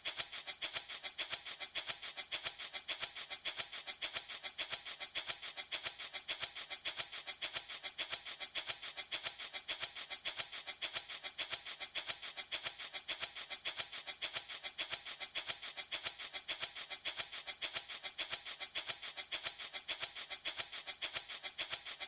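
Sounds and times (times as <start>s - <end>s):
rattle shaken: 0.0s - 22.0s.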